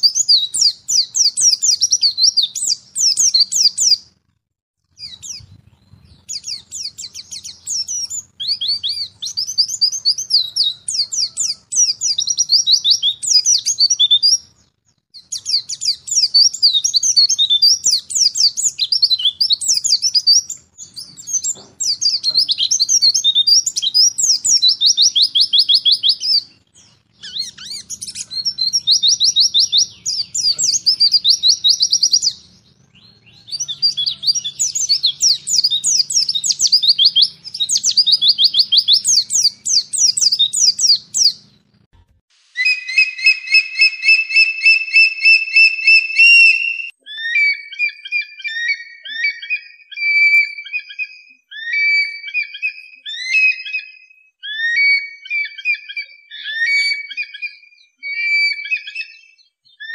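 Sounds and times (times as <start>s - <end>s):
songbirds chirping and trilling: 0.0s - 41.9s, 42.6s - 59.9s.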